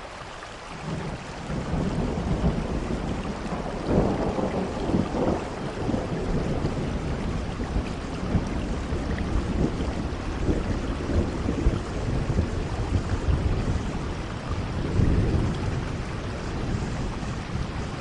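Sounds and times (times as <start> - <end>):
rain falling: 0.0 - 18.0
thunder rumbling: 0.8 - 18.0.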